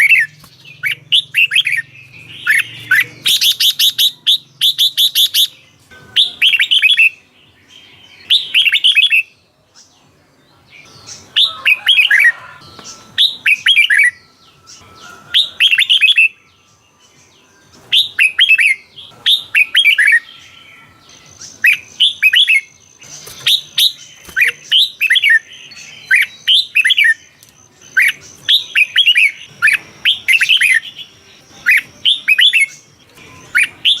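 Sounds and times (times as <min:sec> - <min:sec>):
bird singing warbled phrases: 0:00.0 - 0:34.0.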